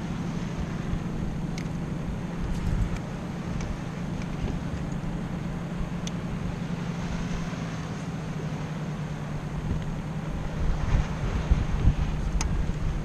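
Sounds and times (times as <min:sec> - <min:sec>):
low motor hum: 0:00.0 - 0:13.0
water noise: 0:00.0 - 0:13.0
wind: 0:00.0 - 0:13.0.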